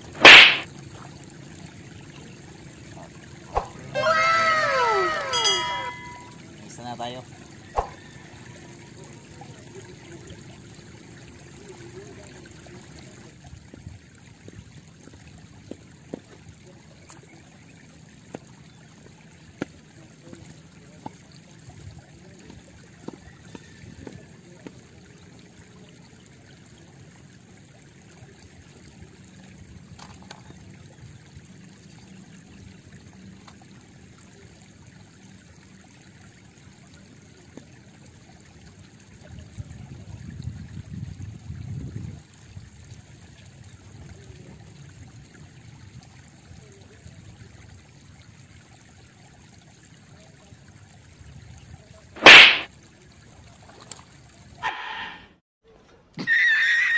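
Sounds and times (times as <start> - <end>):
river water trickling: 0.0 - 55.2.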